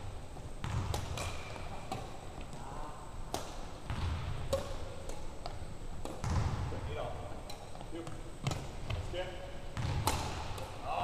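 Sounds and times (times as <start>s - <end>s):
racket hitting shuttlecock: 0.6s - 2.6s, 3.3s - 9.0s, 9.7s - 11.0s.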